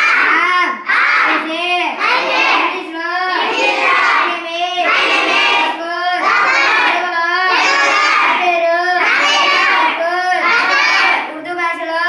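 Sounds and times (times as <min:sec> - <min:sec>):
children chanting in unison: 0:00.0 - 0:12.0.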